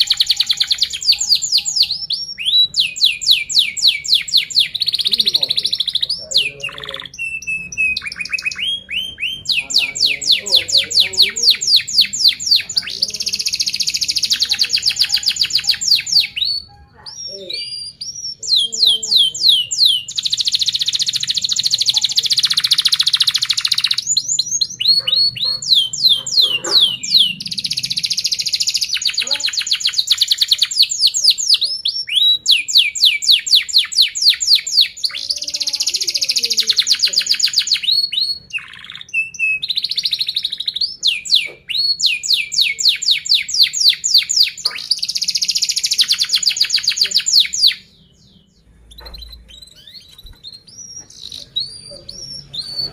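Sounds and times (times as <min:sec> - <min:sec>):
canary singing with chirps and trills: 0:00.0 - 0:52.9.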